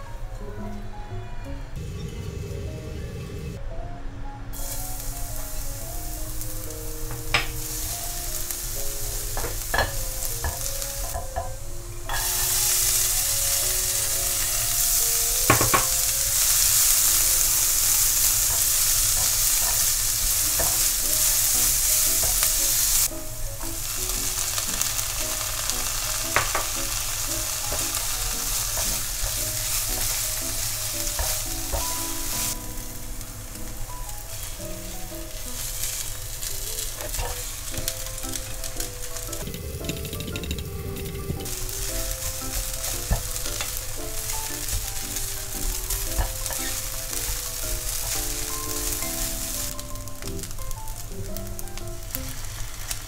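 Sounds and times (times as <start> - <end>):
vegetables sizzling in oil: 4.6 - 53.0.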